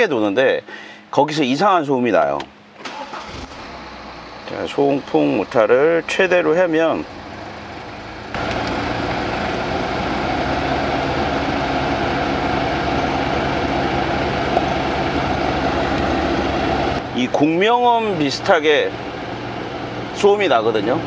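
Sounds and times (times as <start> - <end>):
blower fan droning hum: 0.0 - 21.0.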